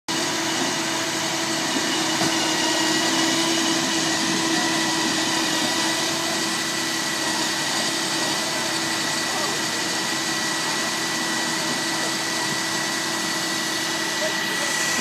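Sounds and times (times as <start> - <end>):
shredder machinery running: 0.1 - 15.0.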